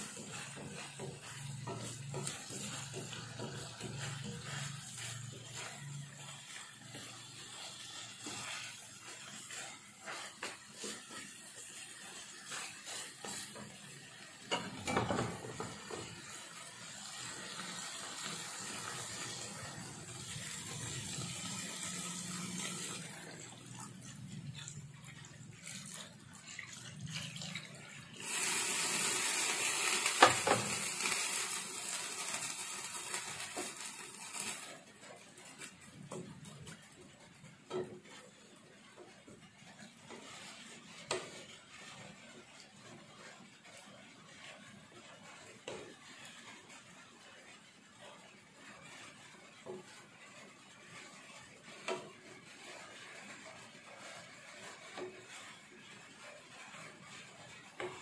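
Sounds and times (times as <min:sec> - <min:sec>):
liquid pouring into hot pan: 0:00.0 - 0:58.0
meat sizzling in a pan: 0:00.0 - 0:58.0
spatula scraping a pan: 0:00.0 - 0:58.0.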